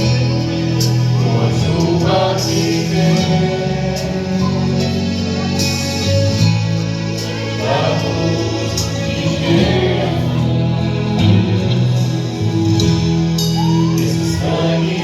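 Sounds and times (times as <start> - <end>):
gospel voices singing together: 0.0 - 15.0
sustained instrumental chords: 0.0 - 15.0.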